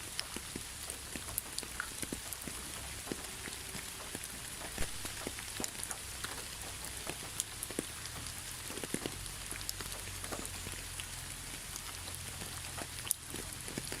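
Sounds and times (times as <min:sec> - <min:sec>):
rain hissing: 0:00.0 - 0:14.0
raindrops clicking on surface: 0:00.0 - 0:14.0.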